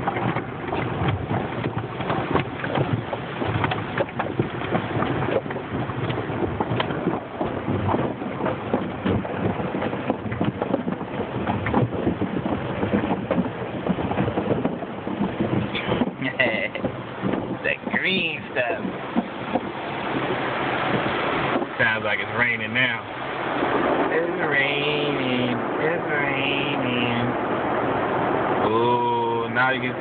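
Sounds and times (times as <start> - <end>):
water spraying on car: 0.0 - 30.0.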